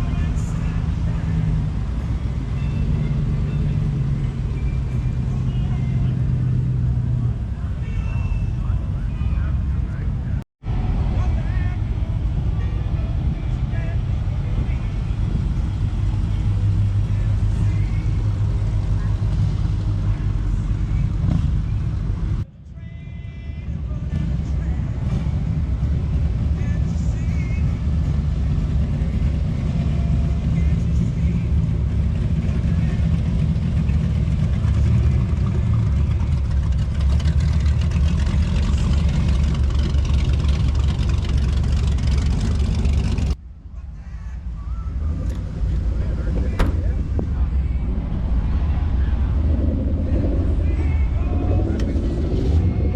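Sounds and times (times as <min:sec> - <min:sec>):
car engine exhaust rumble: 0:00.0 - 0:52.9.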